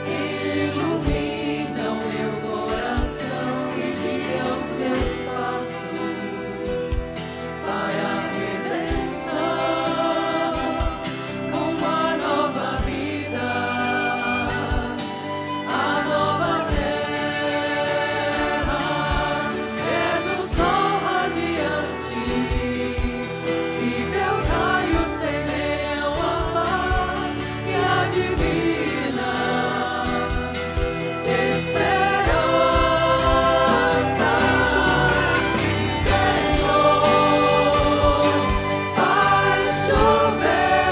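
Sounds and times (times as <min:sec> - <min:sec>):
choir singing a hymn: 0:00.0 - 0:40.9
drums: 0:00.0 - 0:40.9
electric guitar: 0:00.0 - 0:40.9
flute: 0:00.0 - 0:40.9
keyboard: 0:00.0 - 0:40.9
violin: 0:00.0 - 0:40.9.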